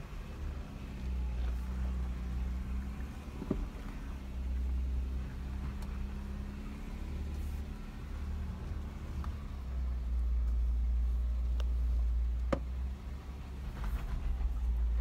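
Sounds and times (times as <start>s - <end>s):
off-road vehicle engine rumble: 0.0s - 15.0s.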